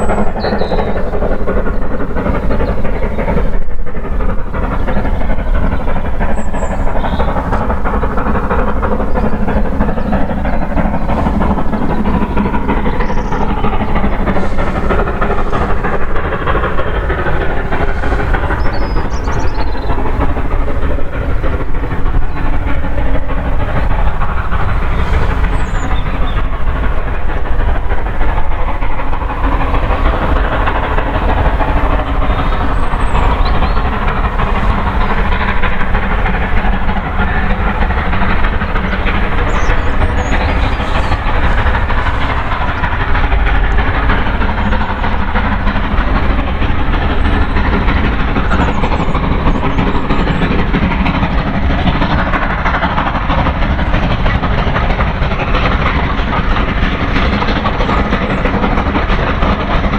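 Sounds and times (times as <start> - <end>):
train rumbling past: 0.0 - 59.9
wheels clacking over rail joints: 0.0 - 59.9.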